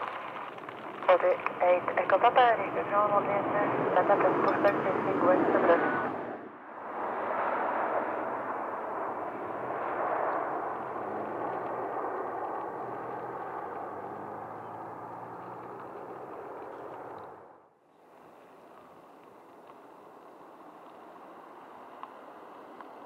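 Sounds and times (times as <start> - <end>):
faint steady noise: 0.0 - 7.2, 8.0 - 23.0
jet engines roaring: 0.0 - 23.0.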